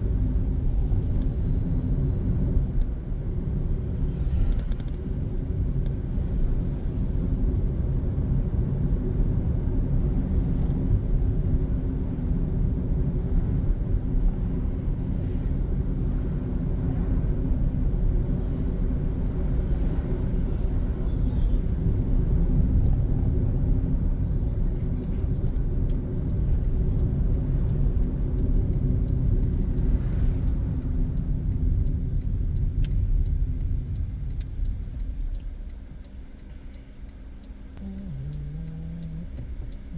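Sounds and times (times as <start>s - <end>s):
car engine and road noise: 0.0s - 39.9s
faint constant hum: 0.0s - 39.9s.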